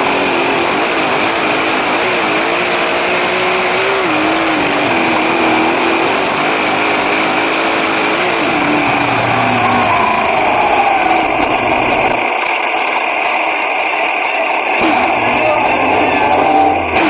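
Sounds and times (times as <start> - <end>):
race car engine: 0.0 - 17.0
rushing noise: 0.0 - 17.0
steady high whine: 0.0 - 17.0.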